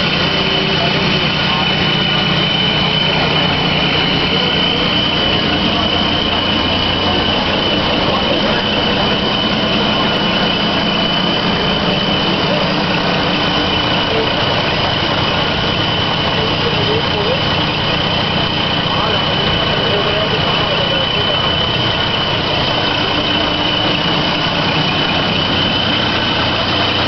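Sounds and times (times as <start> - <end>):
diesel truck engine idling: 0.0 - 27.0
thin high whine: 0.0 - 27.0.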